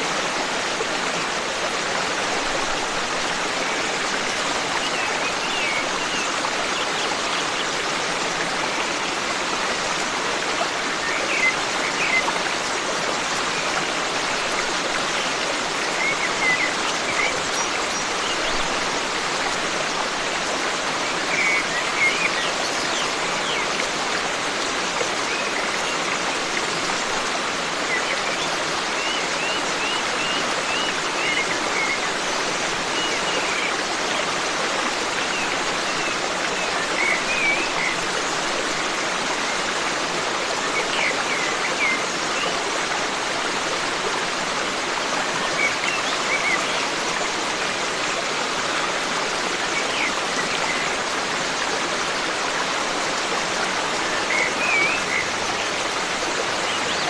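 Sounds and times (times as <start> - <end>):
forest stream running: 0.0 - 57.0.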